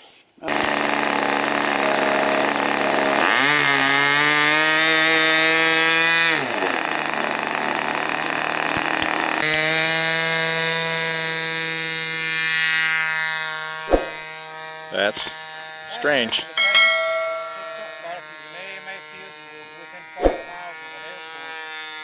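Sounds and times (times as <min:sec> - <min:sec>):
model airplane engine running: 0:00.4 - 0:22.0.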